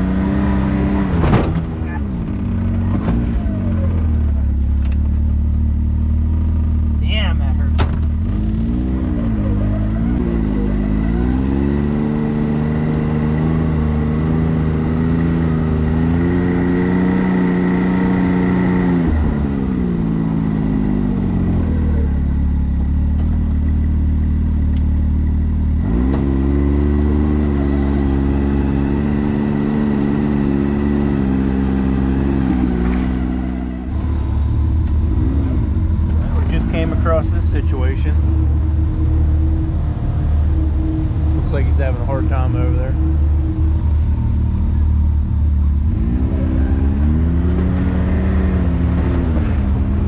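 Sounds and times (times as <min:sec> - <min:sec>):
engine revving: 0:00.0 - 0:50.0.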